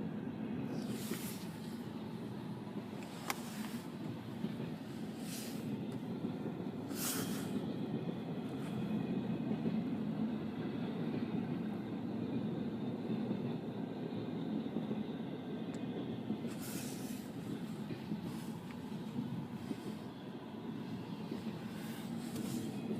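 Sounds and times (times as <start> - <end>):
train rumbling on track: 0.0 - 22.9.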